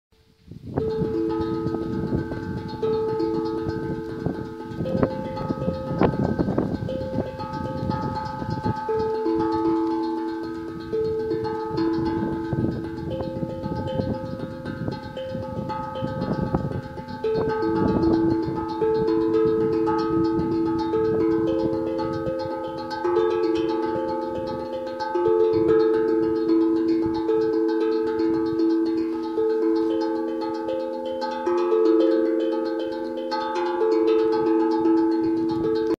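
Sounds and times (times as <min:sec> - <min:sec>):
steel tongue drum melody: 0:00.2 - 0:36.0.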